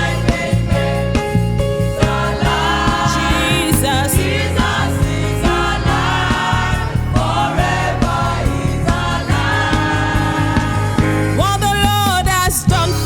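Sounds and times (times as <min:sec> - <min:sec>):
choir singing: 0:00.0 - 0:11.4
band with bass and drums: 0:00.0 - 0:13.0.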